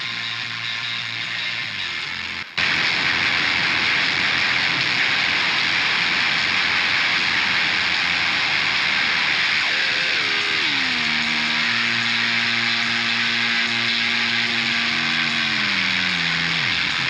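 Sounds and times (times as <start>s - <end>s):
harsh hissing noise: 2.6s - 16.7s.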